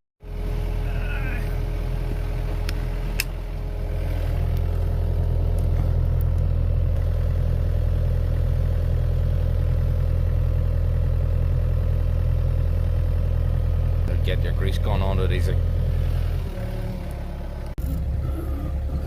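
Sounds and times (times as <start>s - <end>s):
excavator diesel engine running: 0.2s - 19.0s.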